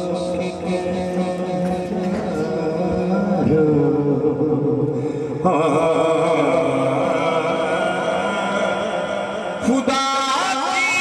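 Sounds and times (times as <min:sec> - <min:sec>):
person chanting melodically: 0:00.0 - 0:11.0.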